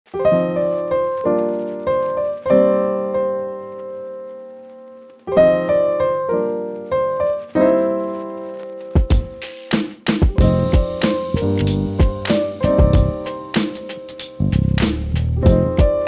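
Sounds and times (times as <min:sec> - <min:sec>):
piano chords: 0:00.1 - 0:16.0.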